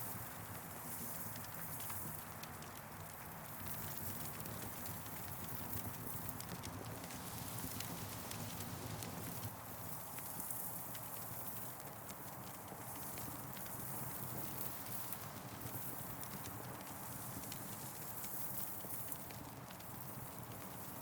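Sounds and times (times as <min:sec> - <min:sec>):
burning wood crackling and popping: 0:01.2 - 0:21.0.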